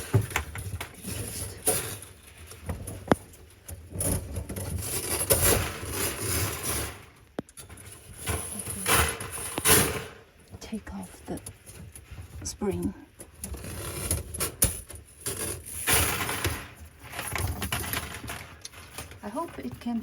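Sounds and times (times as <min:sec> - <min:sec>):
coil spring scraping and rattling: 0:00.0 - 0:10.2, 0:13.2 - 0:20.0.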